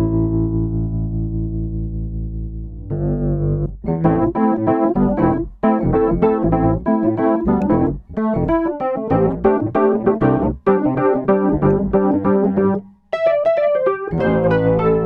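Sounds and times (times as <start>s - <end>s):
electric piano repeated chords: 0.0s - 15.0s.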